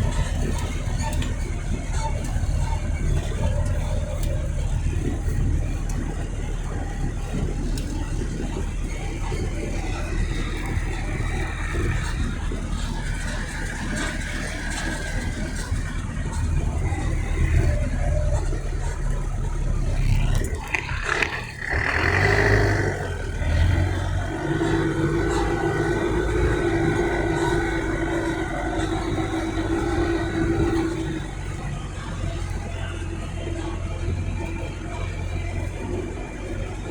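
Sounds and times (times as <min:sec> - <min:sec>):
road noise: 0:00.0 - 0:36.9
vehicle engine rumble: 0:00.0 - 0:36.9.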